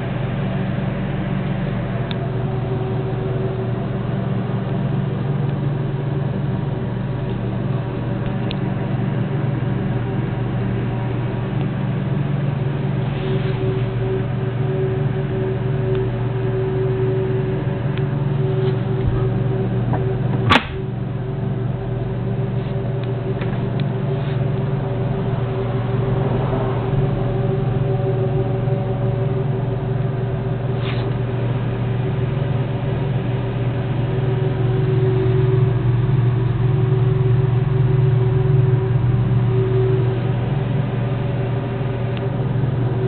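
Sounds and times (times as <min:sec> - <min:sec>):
low motor hum with higher tone: 0:00.0 - 0:43.0.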